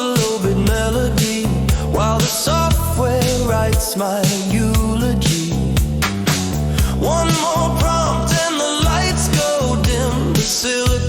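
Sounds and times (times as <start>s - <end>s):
drum machine beat: 0.0s - 11.0s
new wave song: 0.0s - 11.0s
pulsing synth bass: 0.4s - 3.9s, 4.5s - 11.0s.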